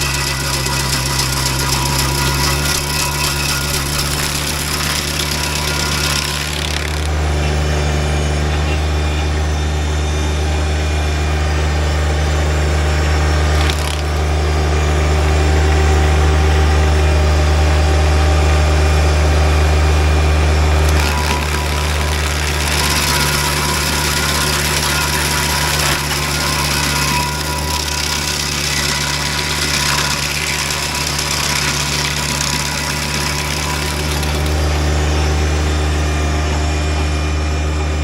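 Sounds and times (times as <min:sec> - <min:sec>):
stump grinder grinding wood: 0:00.0 - 0:38.0
tractor engine drone: 0:00.0 - 0:38.0.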